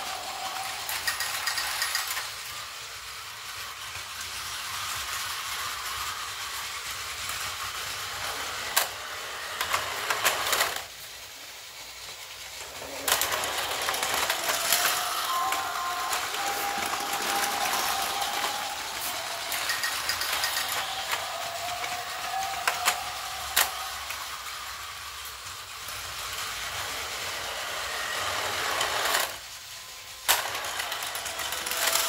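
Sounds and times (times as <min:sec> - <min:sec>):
toy train motor whirring rattle: 0:00.0 - 0:32.0.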